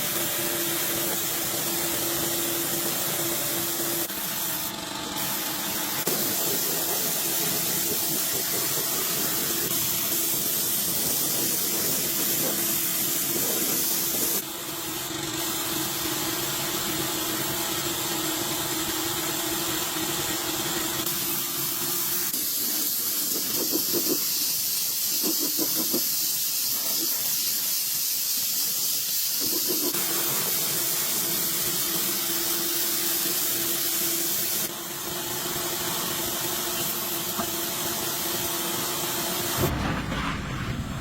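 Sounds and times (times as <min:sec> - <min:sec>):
steady loud hiss: 0:00.0 - 0:41.0.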